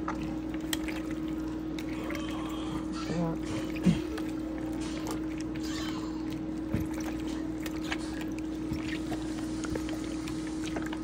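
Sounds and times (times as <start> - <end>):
steady hum: 0.0 - 11.0
wet squishes of mixing chicken: 0.0 - 11.0.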